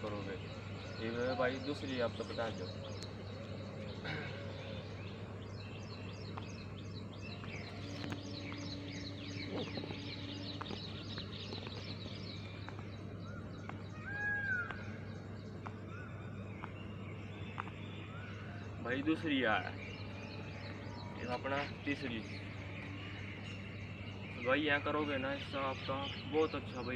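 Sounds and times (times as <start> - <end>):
bird call rising and falling: 0.0 - 26.9
birds chirping: 0.0 - 26.9
steady low hum: 0.0 - 26.9.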